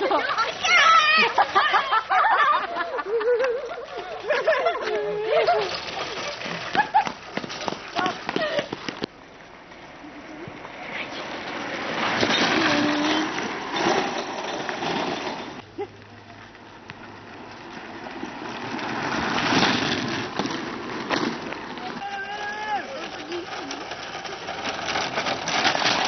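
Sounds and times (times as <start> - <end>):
wheels rumbling on asphalt: 0.0 - 26.0.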